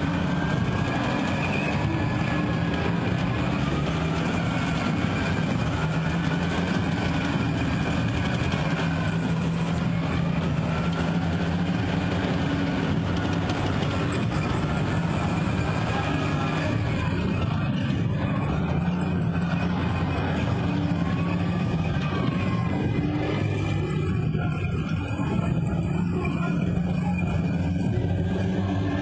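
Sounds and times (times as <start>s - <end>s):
heavy vehicle engines rumbling: 0.0s - 29.0s.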